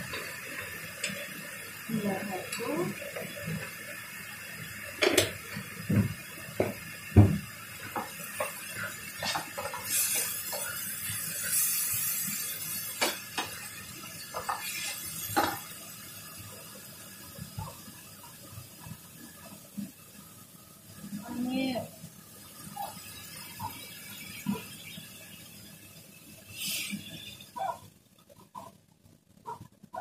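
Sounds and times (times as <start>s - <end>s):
meat sizzling: 0.0s - 28.4s.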